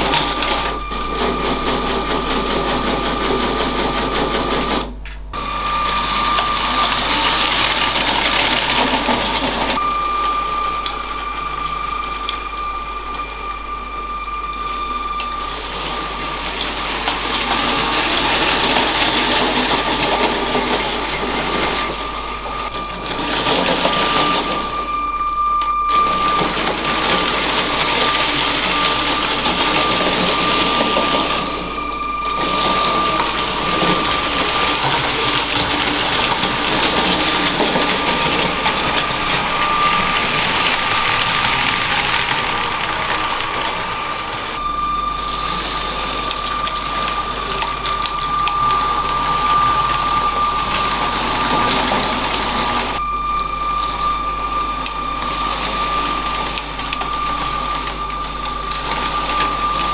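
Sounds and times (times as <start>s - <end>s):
wheels rattling on plastic track: 0.0s - 53.0s, 53.8s - 59.9s
toy train motor whine: 0.0s - 59.9s.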